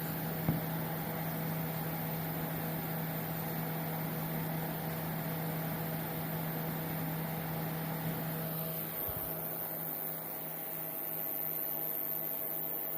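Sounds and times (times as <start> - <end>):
cooling fan noise: 0.0 - 12.9
electrical hum: 0.0 - 12.9.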